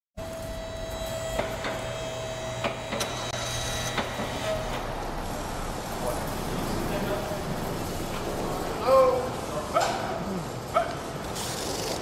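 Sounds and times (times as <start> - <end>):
steady whine: 0.2 - 11.3.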